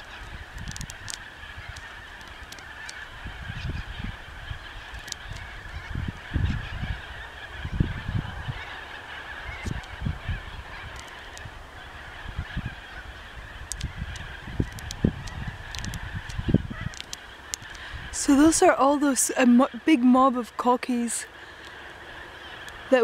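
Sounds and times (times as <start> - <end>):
flock of corellas calling: 0.0 - 23.0.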